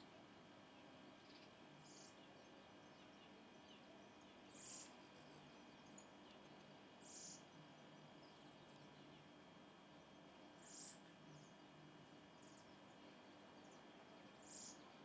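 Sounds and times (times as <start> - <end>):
faint bird chirps: 0.0 - 15.0
low background hiss: 0.0 - 15.0.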